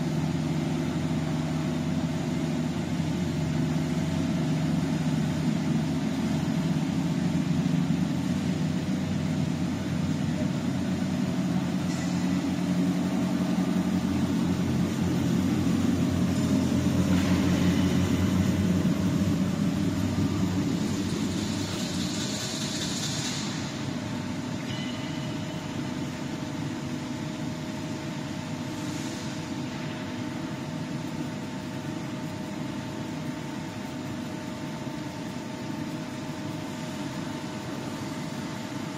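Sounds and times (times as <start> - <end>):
frying machine humming: 0.0 - 38.9.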